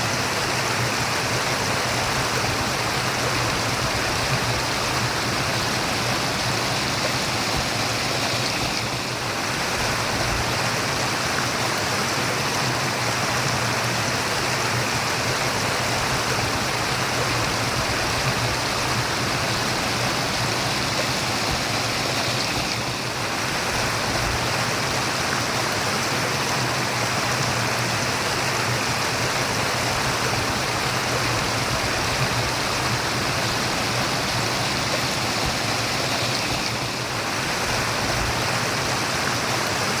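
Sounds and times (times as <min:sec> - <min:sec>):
stream babbling: 0:00.0 - 0:40.0.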